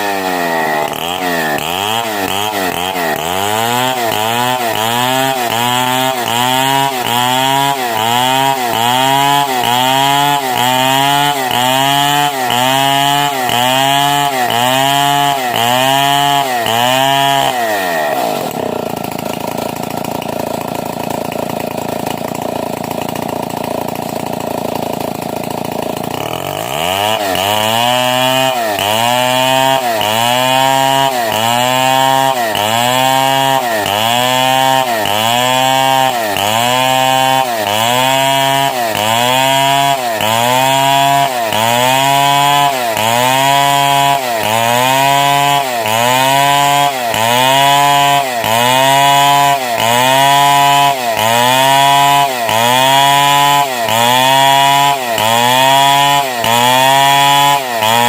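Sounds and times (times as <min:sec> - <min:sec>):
chainsaw cutting through log: 0:00.0 - 0:58.0.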